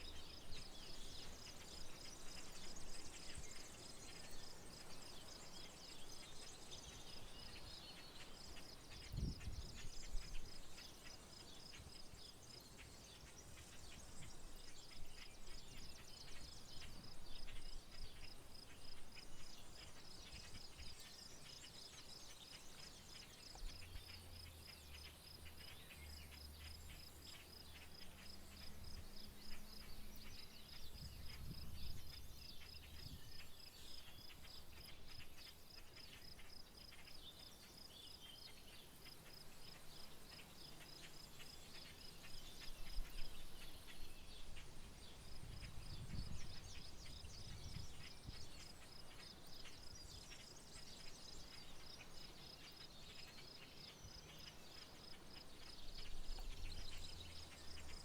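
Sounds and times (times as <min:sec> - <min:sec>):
bird chirps: 0:00.0 - 0:58.0.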